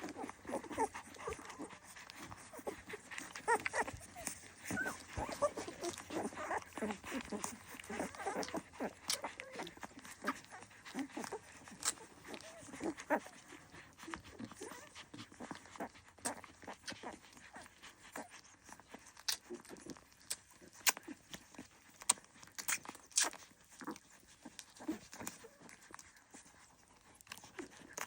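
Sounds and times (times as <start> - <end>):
clicks and rustles: 0.0 - 28.0
puppies squeaking and whimpering: 0.0 - 28.0.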